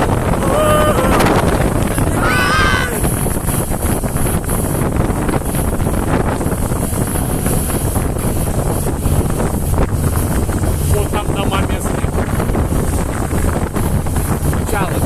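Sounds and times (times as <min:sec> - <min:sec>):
motorboat rumble: 0:00.0 - 0:15.0
wind buffeting microphone: 0:00.0 - 0:15.0.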